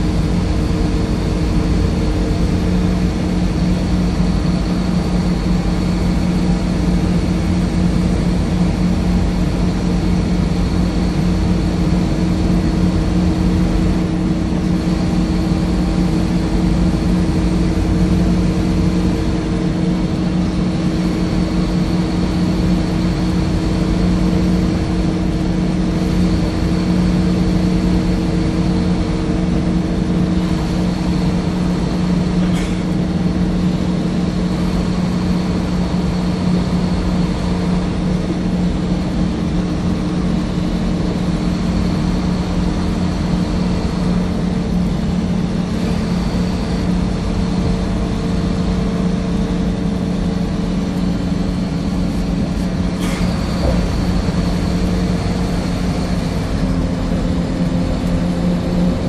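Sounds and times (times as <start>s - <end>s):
bus body rumble: 0.0s - 59.0s
bus engine droning: 0.0s - 59.0s.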